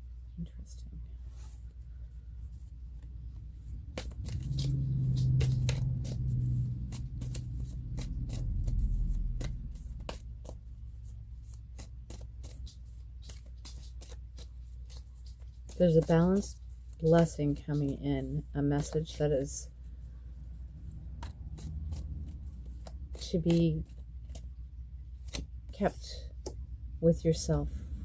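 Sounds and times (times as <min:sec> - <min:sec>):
low steady hum: 0:00.0 - 0:28.0
cards being shuffled: 0:02.9 - 0:19.6, 0:20.7 - 0:26.7.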